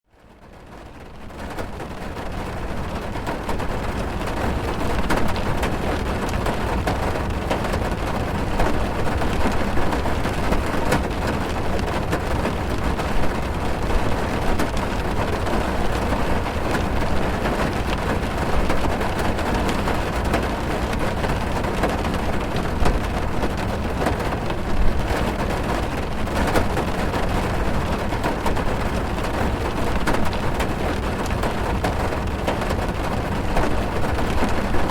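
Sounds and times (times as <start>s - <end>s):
heavy rain on a car roof: 0.1s - 34.9s.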